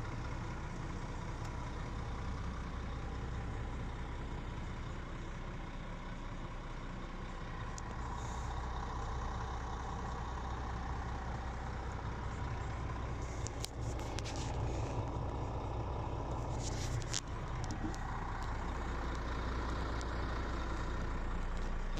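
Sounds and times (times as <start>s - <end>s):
diesel engine idling: 0.0s - 21.9s.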